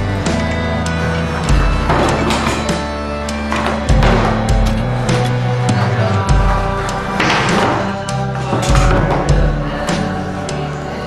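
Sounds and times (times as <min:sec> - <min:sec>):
music with drum beat and bass: 0:00.0 - 0:10.7.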